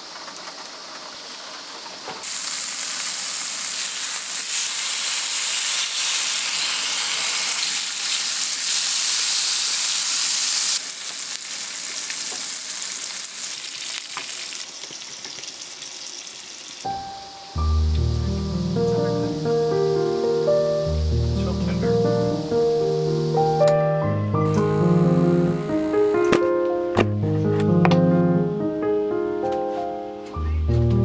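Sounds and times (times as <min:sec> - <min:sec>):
food sizzling in a frying pan: 0:00.0 - 0:26.2.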